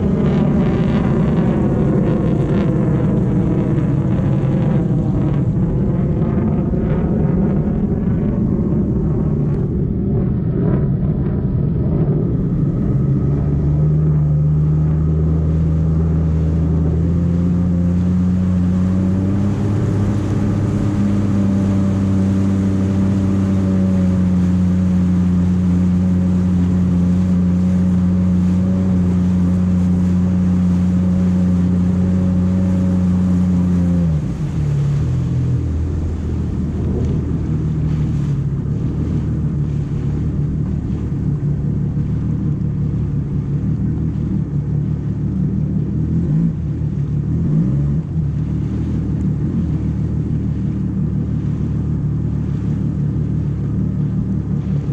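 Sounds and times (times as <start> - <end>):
jet ski engine running: 0.0 - 54.9.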